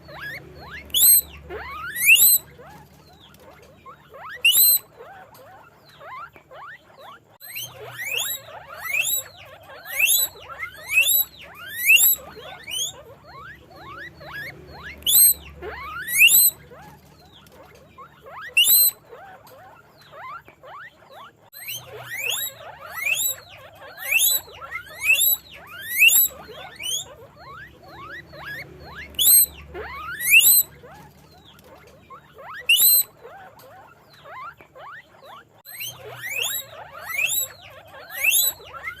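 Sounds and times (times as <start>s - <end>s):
guinea pig squeaking: 0.0s - 39.0s.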